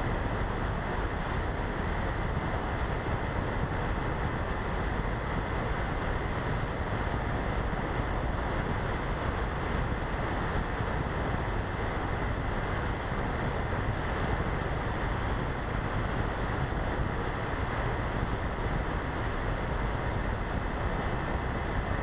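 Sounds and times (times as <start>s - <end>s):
wind rushing over camera: 0.0s - 22.0s.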